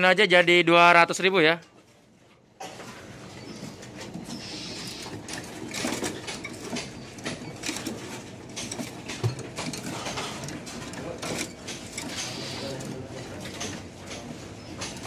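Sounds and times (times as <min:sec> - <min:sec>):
caged birds chirping: 0:02.9 - 0:15.0.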